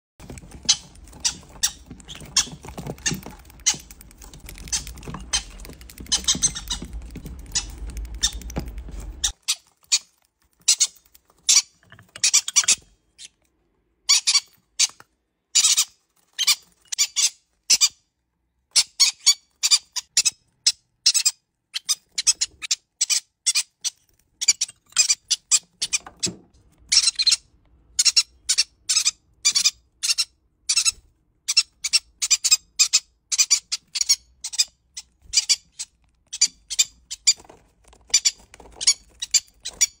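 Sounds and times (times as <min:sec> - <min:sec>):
parrots chirping and squawking: 0:00.2 - 0:13.4, 0:14.0 - 0:18.1, 0:18.7 - 0:40.0.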